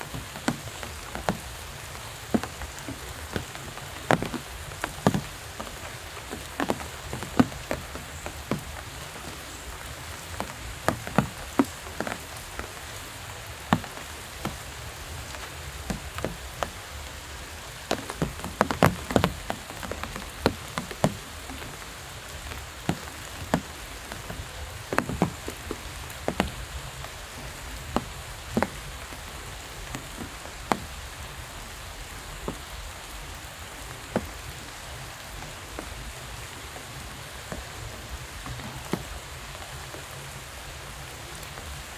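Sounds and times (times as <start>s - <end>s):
heavy raindrops tapping: 0.0s - 41.9s
steady rain hiss: 0.0s - 41.9s.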